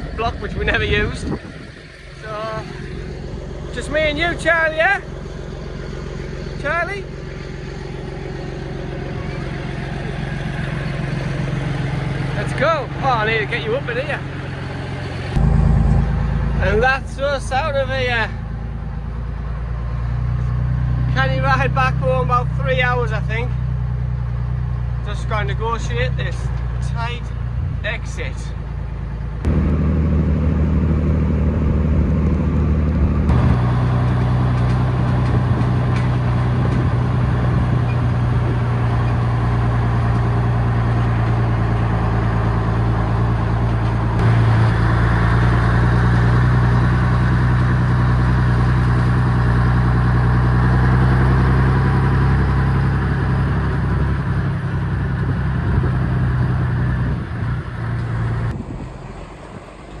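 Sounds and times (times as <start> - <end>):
vehicle engine pulling away: 0.0 - 60.0.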